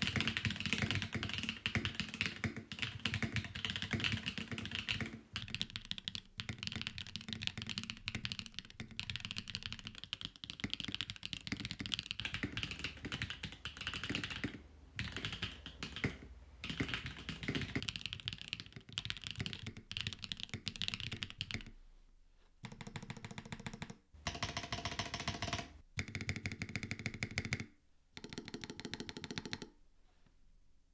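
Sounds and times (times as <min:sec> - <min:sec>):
clacky mechanical keyboard typing: 0:00.0 - 0:21.7, 0:22.6 - 0:29.7.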